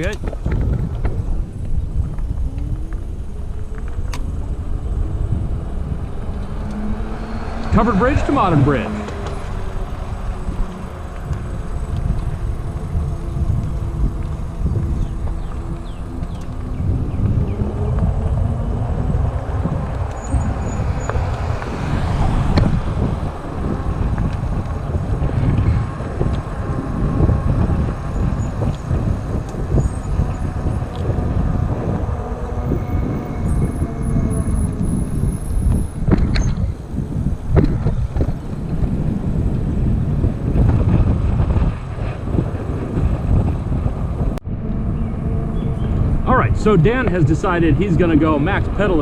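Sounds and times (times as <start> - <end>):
tyre noise on road: 0.0 - 49.0
wind on microphone: 0.0 - 49.0.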